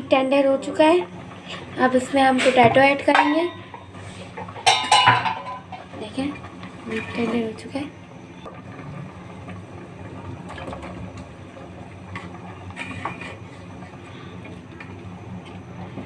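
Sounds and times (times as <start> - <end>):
stove low hum: 0.0 - 16.0.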